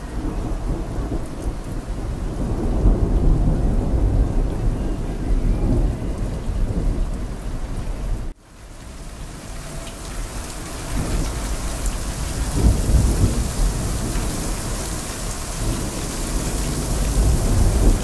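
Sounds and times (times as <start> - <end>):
thunder rumbling: 0.0 - 8.4, 9.0 - 18.0
heavy rain: 0.0 - 18.0.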